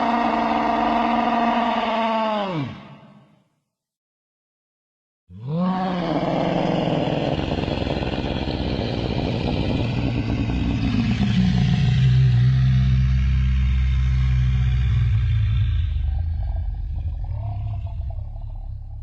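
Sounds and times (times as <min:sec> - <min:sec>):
dinosaur bellow: 0:00.0 - 0:03.4, 0:05.3 - 0:19.0.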